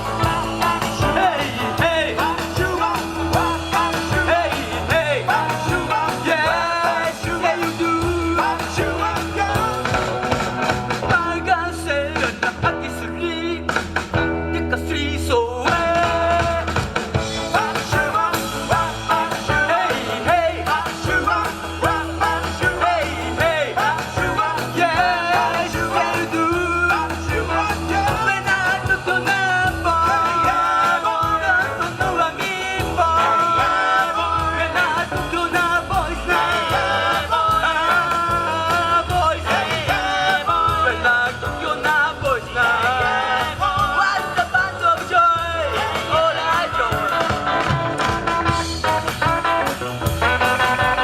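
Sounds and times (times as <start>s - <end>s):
lead singer singing: 0.0s - 49.0s
rock and roll band playing: 0.0s - 51.0s.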